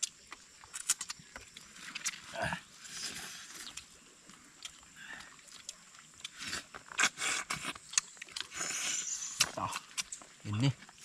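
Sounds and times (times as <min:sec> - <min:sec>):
chewing and mouth smacks: 0:00.0 - 0:02.3, 0:03.5 - 0:11.0.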